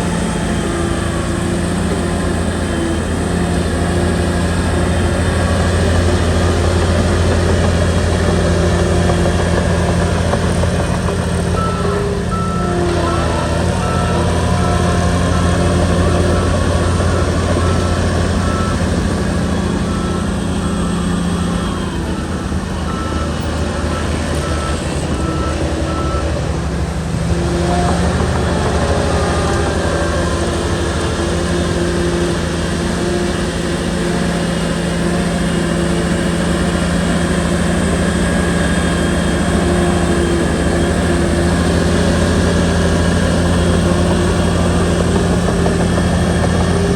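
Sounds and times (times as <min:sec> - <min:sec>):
bulldozer diesel engine running: 0:00.0 - 0:46.9
reversing alarm beeping: 0:00.0 - 0:46.9.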